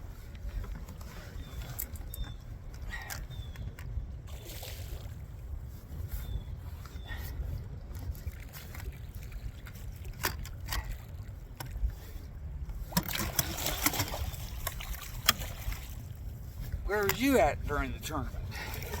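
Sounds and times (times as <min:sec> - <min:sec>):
water lapping against boat: 0:00.0 - 0:19.0
wind buffeting microphone: 0:00.0 - 0:19.0.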